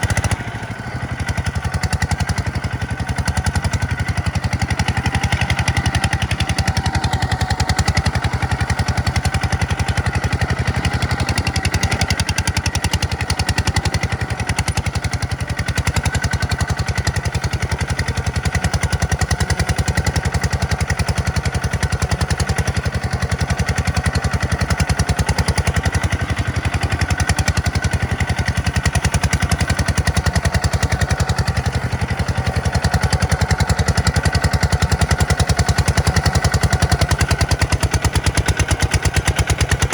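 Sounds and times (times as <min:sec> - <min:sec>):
tractor engine pulsing: 0:00.0 - 0:39.9.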